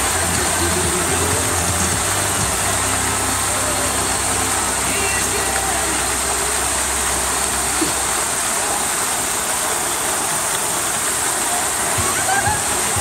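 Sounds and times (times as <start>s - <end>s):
loud outdoor hiss: 0.0s - 13.0s.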